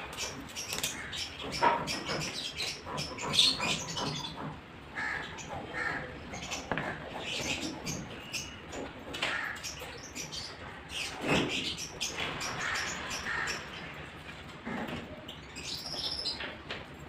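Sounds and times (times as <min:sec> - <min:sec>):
birds chirping: 0:00.0 - 0:16.6.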